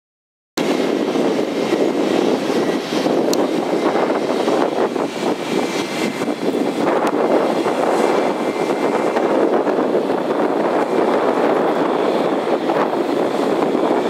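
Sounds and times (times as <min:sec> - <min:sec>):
jet engines rumbling: 0:00.6 - 0:14.0.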